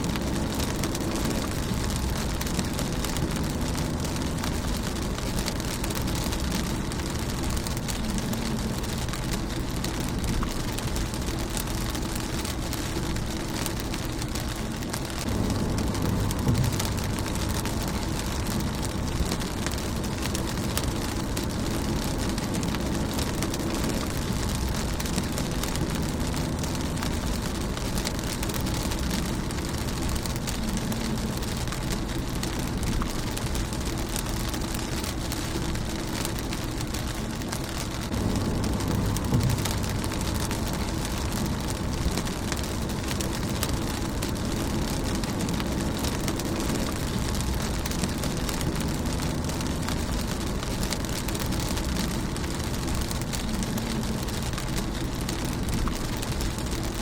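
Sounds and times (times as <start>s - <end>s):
low rumble: 0.0s - 57.0s
rain pattering on windshield: 0.0s - 57.0s.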